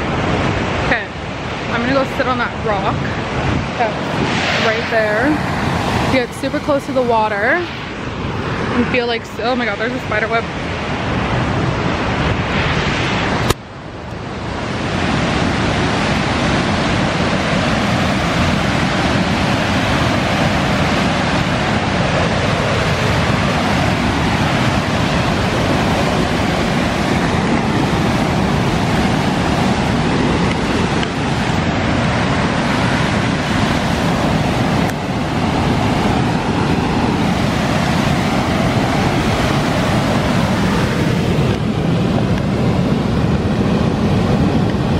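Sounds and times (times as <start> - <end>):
rapids rushing: 0.0 - 44.9.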